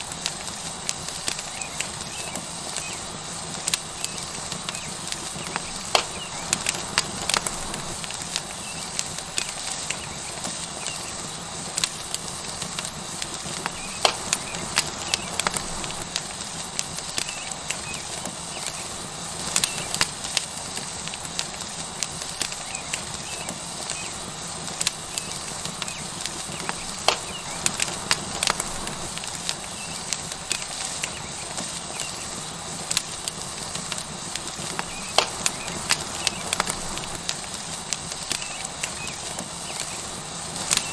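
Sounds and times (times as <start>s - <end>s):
fire crackling and popping: 0.0s - 40.9s
steak sizzling on a hot rock: 0.0s - 40.9s.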